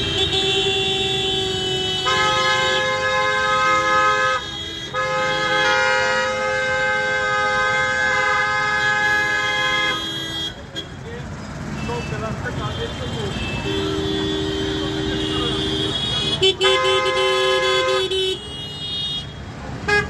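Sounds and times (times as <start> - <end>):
car horns honking: 0.0 - 20.0.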